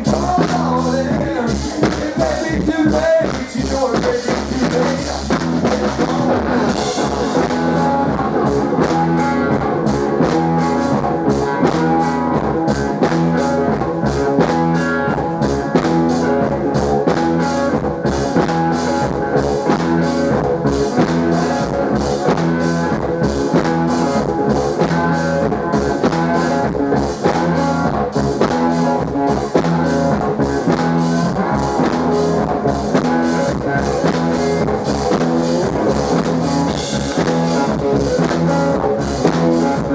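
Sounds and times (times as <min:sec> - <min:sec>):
drum kit beat: 0:00.0 - 0:39.9
electric slide guitar: 0:00.0 - 0:39.9.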